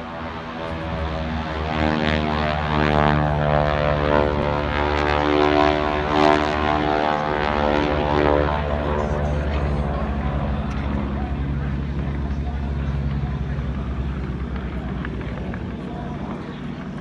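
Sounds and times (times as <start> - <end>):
propeller plane engines overhead: 0.0 - 17.0.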